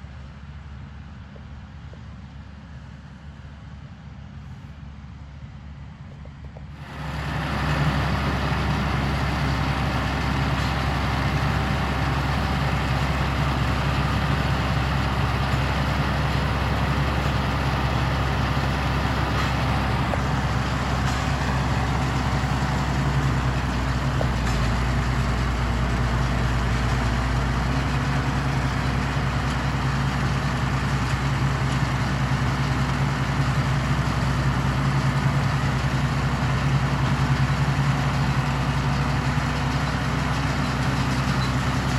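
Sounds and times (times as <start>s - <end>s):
tractor diesel engine running: 0.0s - 41.9s
machinery noise: 6.8s - 41.9s.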